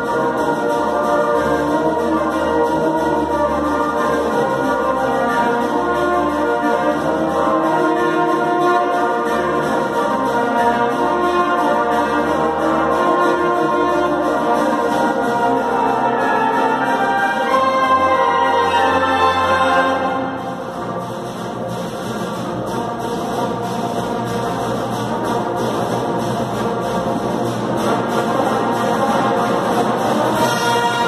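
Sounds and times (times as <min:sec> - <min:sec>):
brass band playing held chords: 0:00.0 - 0:31.0.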